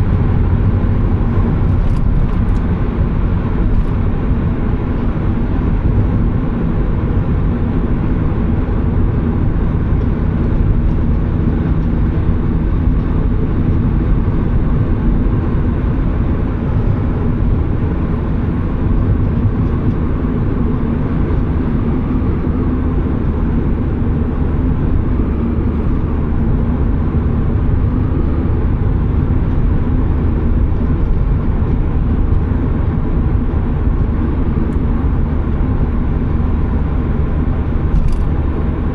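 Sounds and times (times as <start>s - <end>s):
car engine cruising: 0.0s - 38.9s
road and tyre noise: 0.0s - 38.9s.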